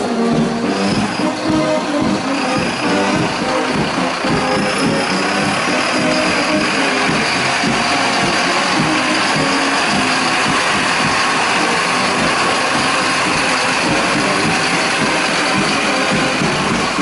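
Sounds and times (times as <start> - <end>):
fire engine diesel engine passing: 0.0 - 17.0.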